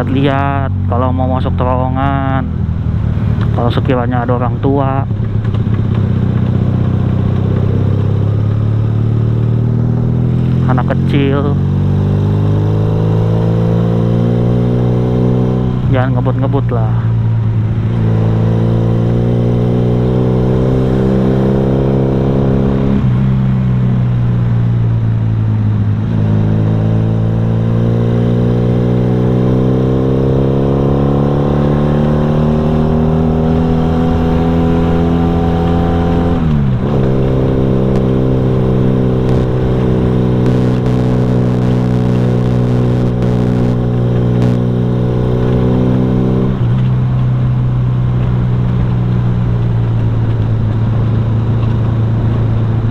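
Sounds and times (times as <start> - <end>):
motorcycle exhaust while riding: 0.0 - 52.9.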